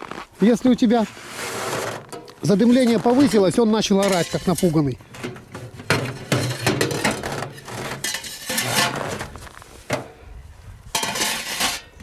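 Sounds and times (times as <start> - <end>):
sheet metal clanking and scraping: 1.4 - 10.2, 10.9 - 12.0.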